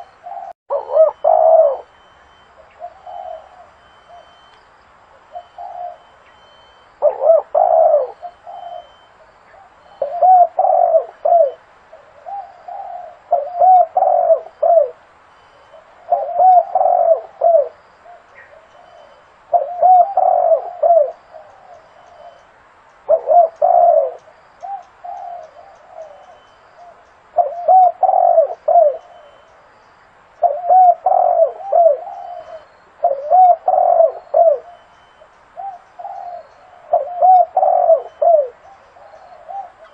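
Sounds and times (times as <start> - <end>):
dove cooing: 0.0 - 4.5, 5.1 - 29.6, 30.4 - 39.9.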